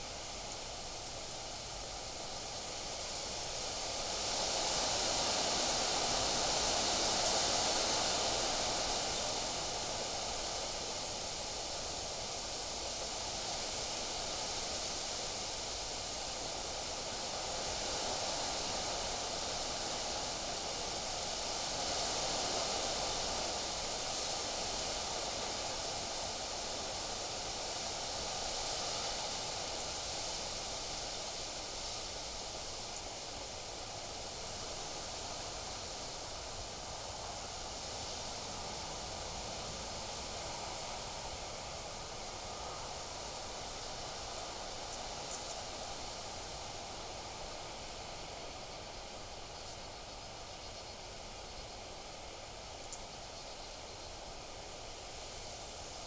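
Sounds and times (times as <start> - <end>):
wind rustling leaves: 0.0 - 56.0.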